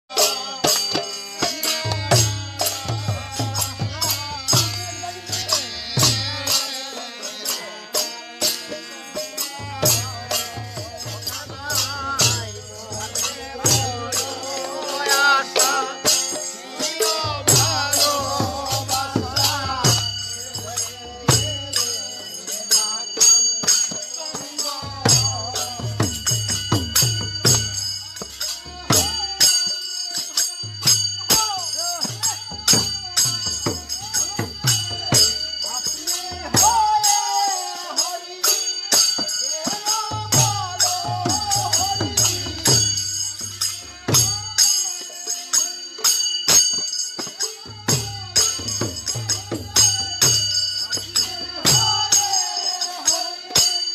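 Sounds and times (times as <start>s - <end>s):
voices chanting together: 0.0s - 53.9s
drum beating: 0.1s - 45.3s, 46.0s - 53.9s
hand cymbals clashing: 0.1s - 53.9s.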